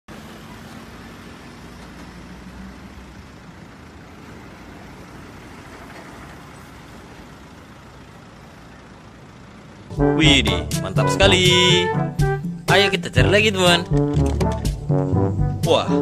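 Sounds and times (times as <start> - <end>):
boom lift engine running: 0.1 - 15.0.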